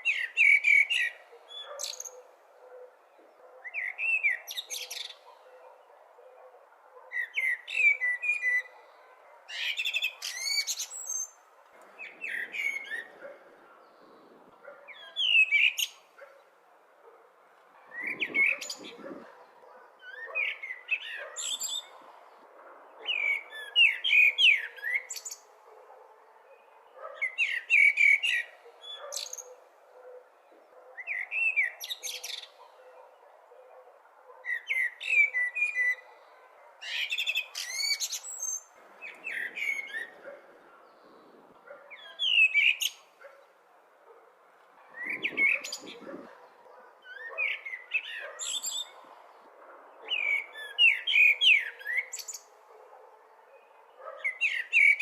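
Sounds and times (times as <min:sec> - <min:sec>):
blackbird singing: 0:00.0 - 0:16.5, 0:17.9 - 0:22.1, 0:22.9 - 0:25.5, 0:26.4 - 0:33.8, 0:34.4 - 0:43.5, 0:44.9 - 0:49.1, 0:49.9 - 0:52.5, 0:53.4 - 0:55.0.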